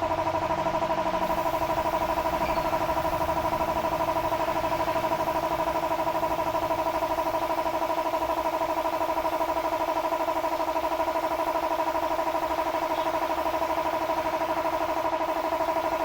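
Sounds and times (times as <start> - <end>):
small motor humming: 0.0 - 9.8, 11.9 - 16.0.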